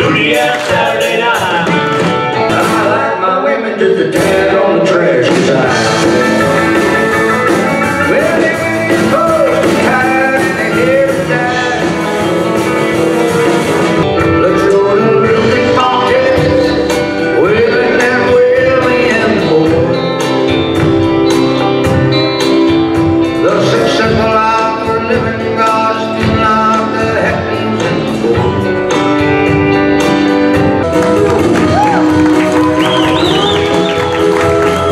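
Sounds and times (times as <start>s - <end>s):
country band playing: 0.0s - 34.9s
person singing: 0.0s - 34.9s.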